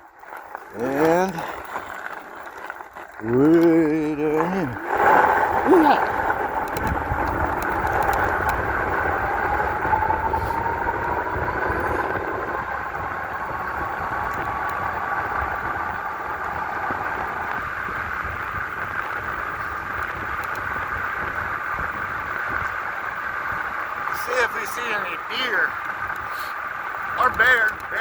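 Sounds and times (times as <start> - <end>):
electric bike motor whining: 0.8 - 24.8
rushing noise: 4.0 - 28.0.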